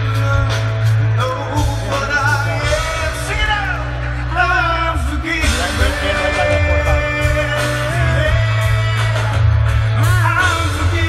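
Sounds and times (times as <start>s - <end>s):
person singing: 0.0s - 9.4s
drums: 0.0s - 11.0s
electric guitar: 0.0s - 11.0s
heavy bass: 0.0s - 11.0s.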